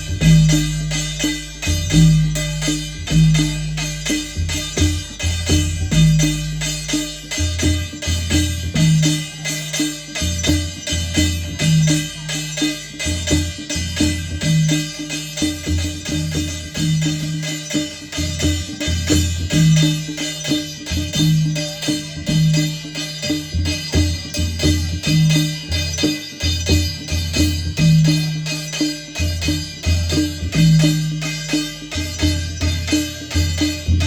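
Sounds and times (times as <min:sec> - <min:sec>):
drum: 0:00.0 - 0:34.0.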